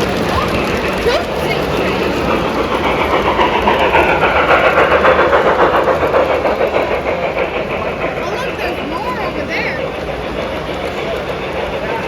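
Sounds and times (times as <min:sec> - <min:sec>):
model train wheels clicking: 0:00.0 - 0:12.0.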